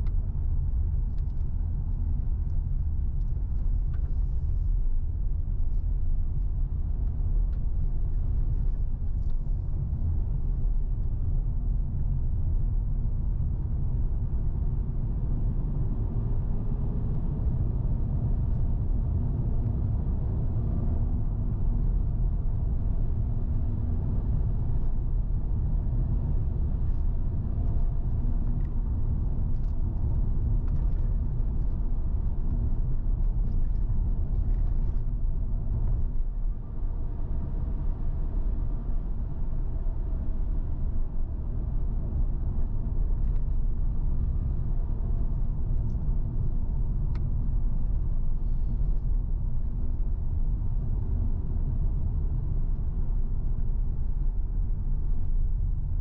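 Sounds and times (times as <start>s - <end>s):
car engine and tyres rumble: 0.0s - 56.0s.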